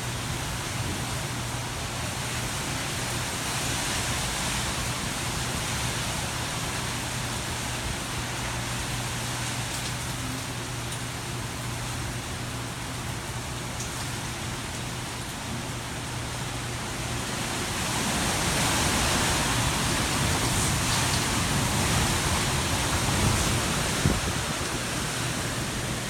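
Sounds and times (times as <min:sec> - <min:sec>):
strong wind and rain: 0:00.0 - 0:26.0.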